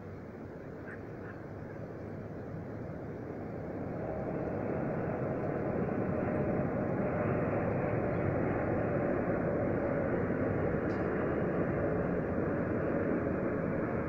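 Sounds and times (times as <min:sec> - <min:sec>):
distant vehicle rumble with whine: 0:00.0 - 0:14.0.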